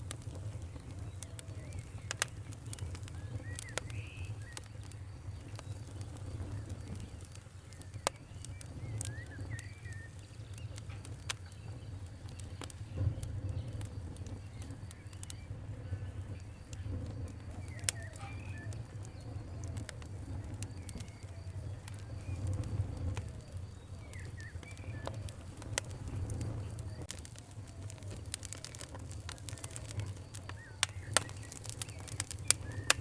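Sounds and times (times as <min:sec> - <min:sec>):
wood fire crackling and popping: 0:00.0 - 0:33.0
faint bird chirps: 0:00.5 - 0:33.0.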